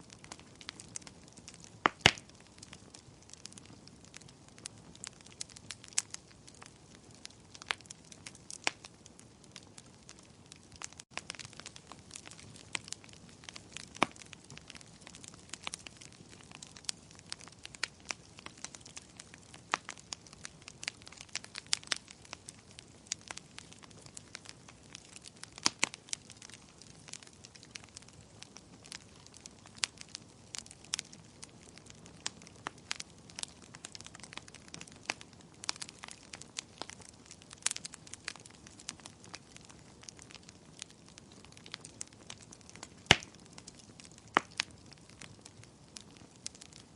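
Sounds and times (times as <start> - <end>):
wood fire crackling: 0.0 - 46.9
sharp pops of burning wood: 0.1 - 8.9, 9.5 - 46.9.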